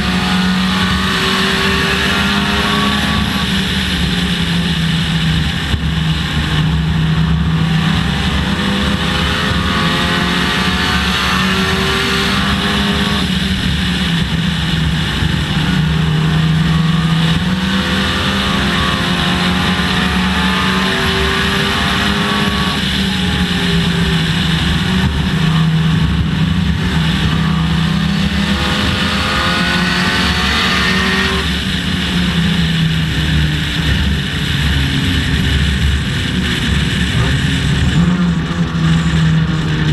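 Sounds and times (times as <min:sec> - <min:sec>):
race car engine revving: 0:00.0 - 0:39.9
tyre and wind noise: 0:00.0 - 0:39.9.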